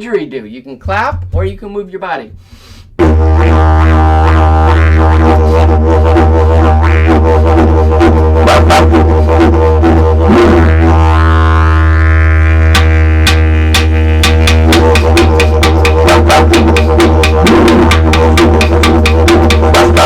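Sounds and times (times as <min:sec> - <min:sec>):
didgeridoo drone: 0:03.0 - 0:20.0.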